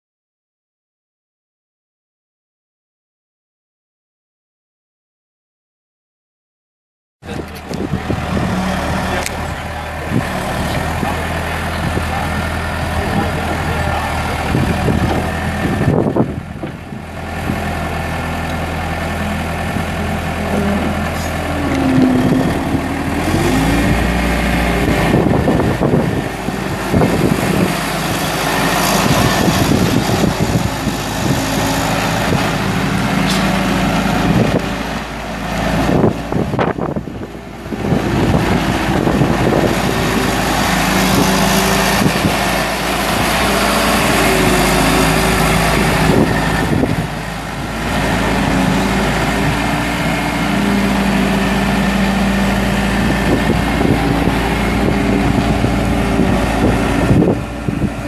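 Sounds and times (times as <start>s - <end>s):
diesel engine running: 7.2s - 58.0s.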